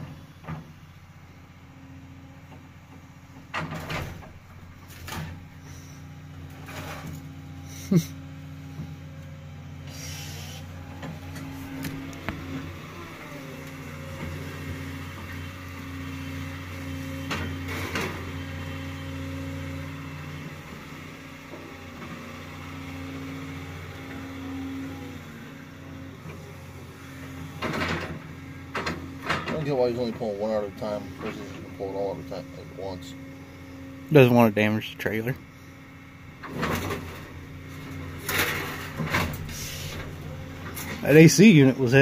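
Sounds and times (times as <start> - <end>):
diesel engine drone: 0.0 - 42.0.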